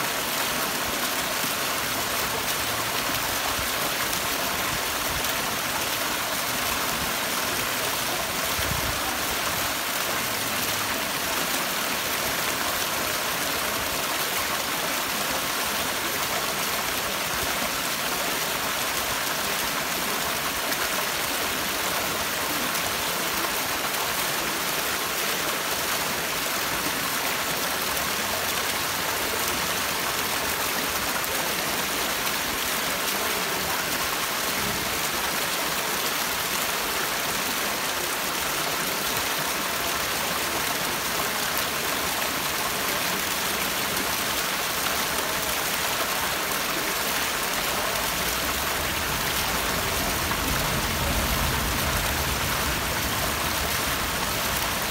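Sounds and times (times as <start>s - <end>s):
fountain water splashing: 0.0s - 54.9s.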